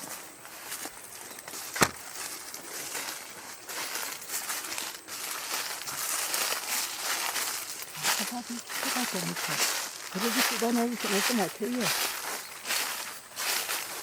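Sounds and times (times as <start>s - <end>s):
footsteps crunching dry leaves: 0.0s - 14.0s.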